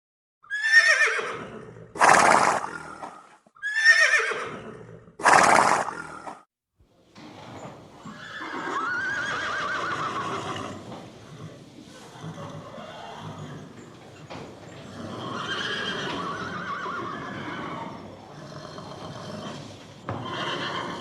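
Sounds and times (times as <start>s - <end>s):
horse neighing: 0.4s - 6.4s, 8.0s - 21.0s.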